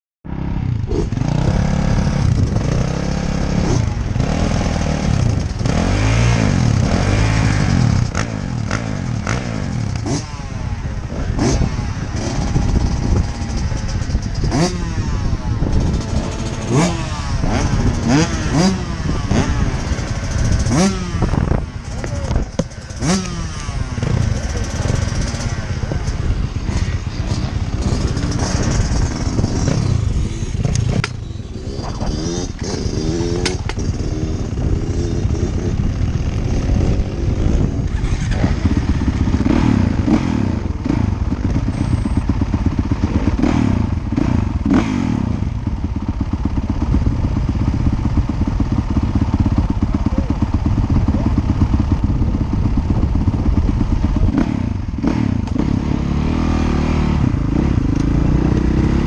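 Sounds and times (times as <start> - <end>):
motocross bike engines revving: 0.3 - 59.0.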